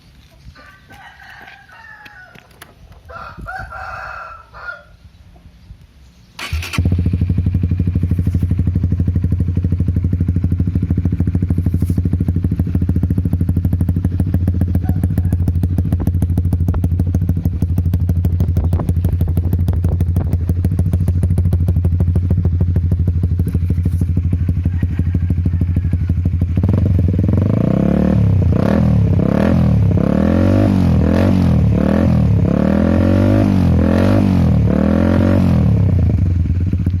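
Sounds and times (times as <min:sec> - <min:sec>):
motorcycle engine idling and revving: 0:06.1 - 0:37.0.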